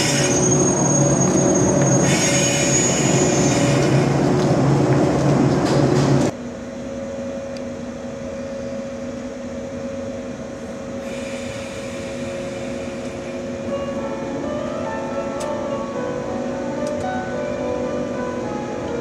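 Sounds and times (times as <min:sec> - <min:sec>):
train running past: 0:00.0 - 0:19.0.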